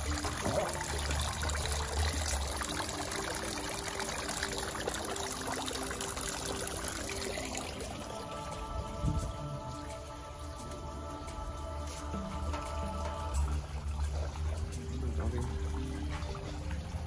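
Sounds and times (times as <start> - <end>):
fountain water trickling and splashing: 0.0 - 17.0.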